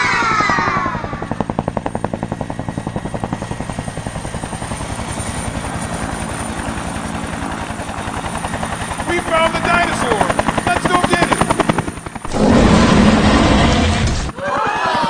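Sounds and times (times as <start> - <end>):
helicopter engine hum: 0.0 - 15.0
helicopter rotor blades chopping: 0.0 - 15.0.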